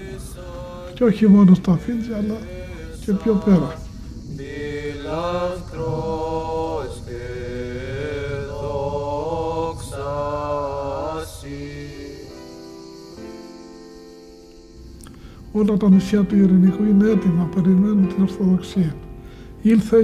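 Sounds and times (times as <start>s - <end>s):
chant-like singing: 0.0s - 14.8s, 15.4s - 20.0s.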